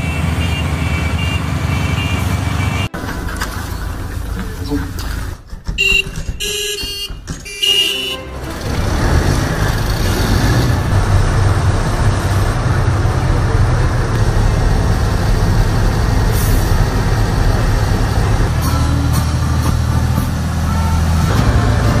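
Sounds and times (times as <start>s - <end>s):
diesel truck engines rumbling: 0.0s - 22.0s.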